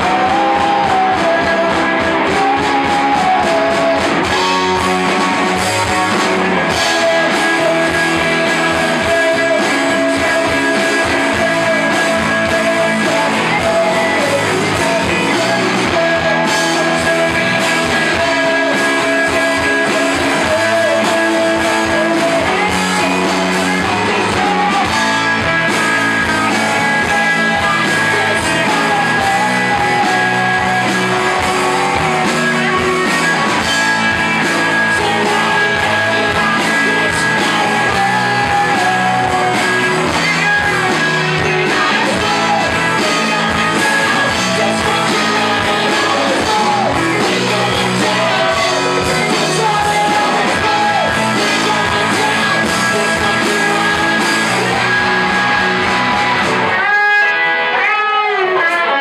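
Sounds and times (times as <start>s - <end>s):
drum kit: 0.0s - 58.5s
bass guitar: 0.0s - 59.0s
electric guitars: 0.0s - 59.0s
person singing lead vocals: 0.0s - 59.0s.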